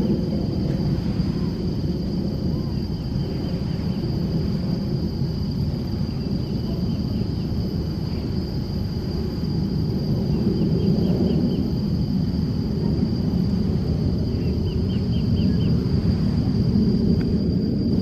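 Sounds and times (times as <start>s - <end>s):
low beach ambience rumble: 0.0s - 18.0s.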